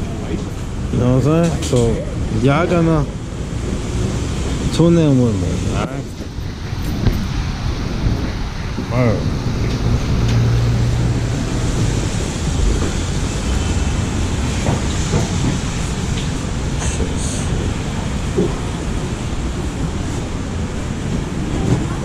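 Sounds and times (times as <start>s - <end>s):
subway train running: 0.0s - 22.0s.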